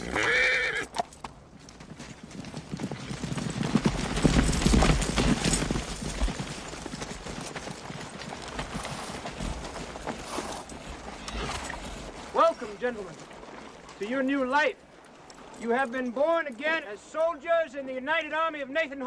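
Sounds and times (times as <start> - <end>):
horses galloping on dirt: 0.0 - 19.0.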